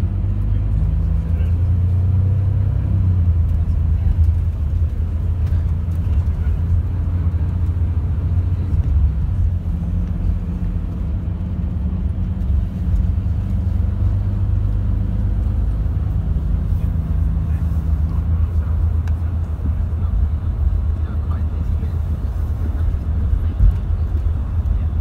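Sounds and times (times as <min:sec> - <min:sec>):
coach engine drone inside cabin: 0:00.0 - 0:25.0.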